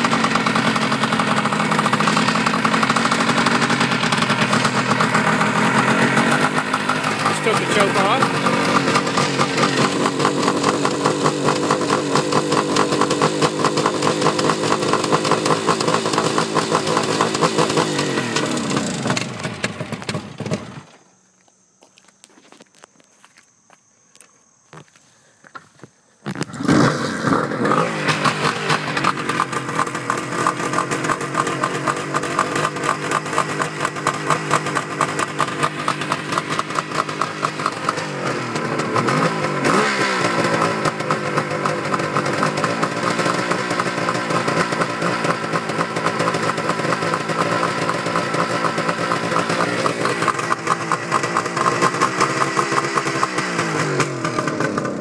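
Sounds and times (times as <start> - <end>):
motorcycle engine starting and idling: 0.0 - 21.1, 26.2 - 55.0.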